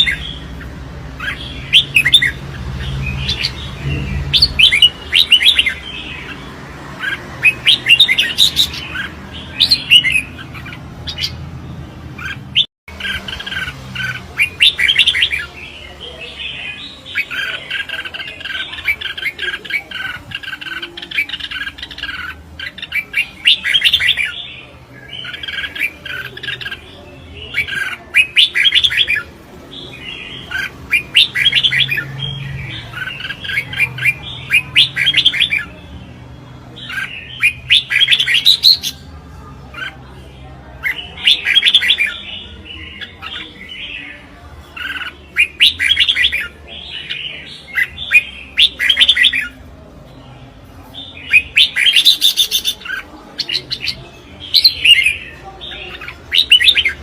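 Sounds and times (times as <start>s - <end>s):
birds singing chattering phrases: 0.0s - 57.0s.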